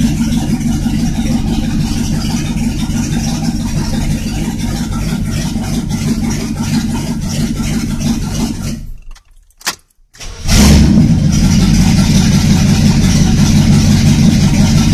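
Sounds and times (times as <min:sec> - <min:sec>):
engine running without exhaust: 0:00.0 - 0:09.1, 0:10.2 - 0:14.9.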